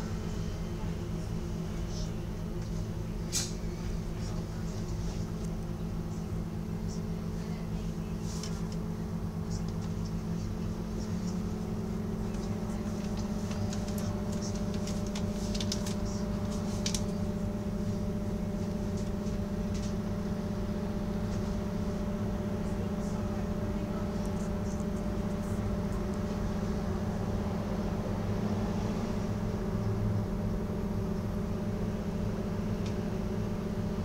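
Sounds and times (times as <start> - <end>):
bus engine idling: 0.0 - 34.0.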